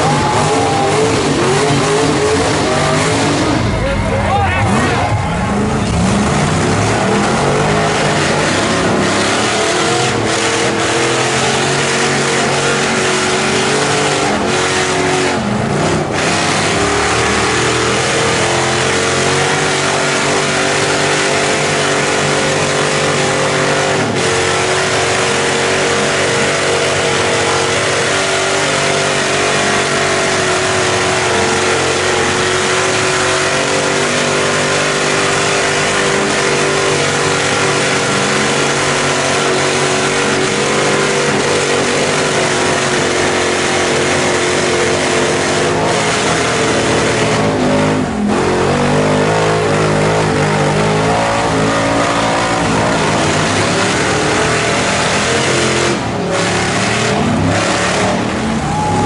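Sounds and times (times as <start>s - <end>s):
truck engine at high revs: 0.0s - 59.0s.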